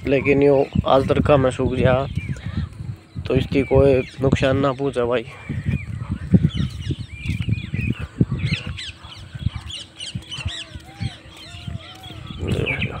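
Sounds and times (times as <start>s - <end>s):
birds chirping: 0.0s - 13.0s
low arching bird calls: 0.0s - 13.0s.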